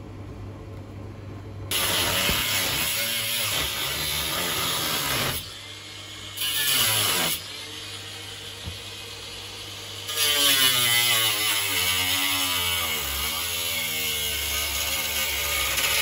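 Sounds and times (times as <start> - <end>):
angle grinder cutting sheet metal: 1.7 - 16.0.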